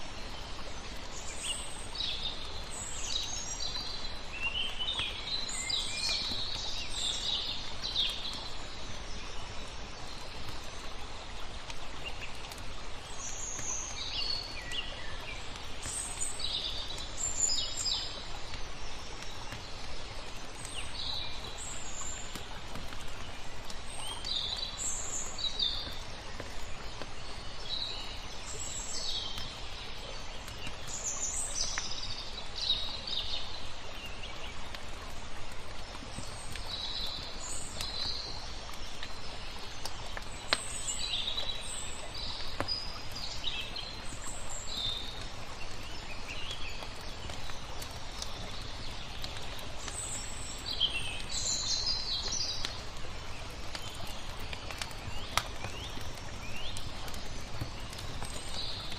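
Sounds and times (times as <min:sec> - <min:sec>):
flowing water: 0:00.0 - 0:58.9
small birds chirping: 0:00.0 - 0:58.9
wood fire crackling: 0:06.2 - 0:30.9, 0:33.5 - 0:58.9.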